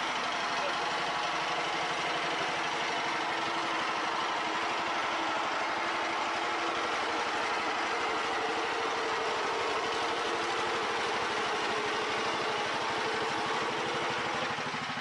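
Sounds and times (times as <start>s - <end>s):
garden tractor engine idling: 0.0s - 15.0s.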